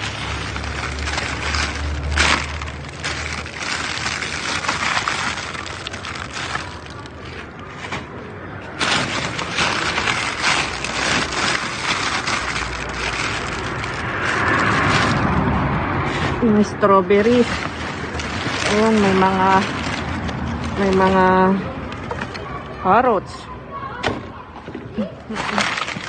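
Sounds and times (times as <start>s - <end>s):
plastic bags rustling and crinkling: 0.0s - 23.2s, 24.6s - 26.0s.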